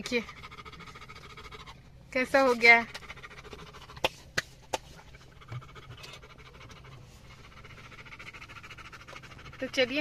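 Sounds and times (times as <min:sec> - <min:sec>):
dog panting: 0:00.0 - 0:04.2, 0:04.8 - 0:10.0.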